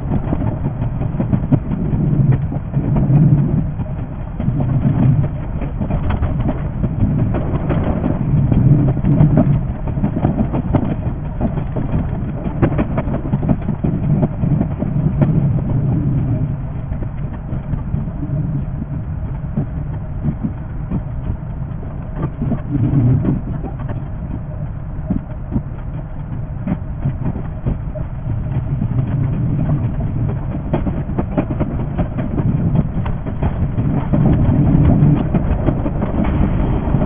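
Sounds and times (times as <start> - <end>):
train wheels and motors rumbling: 0.0 - 37.0.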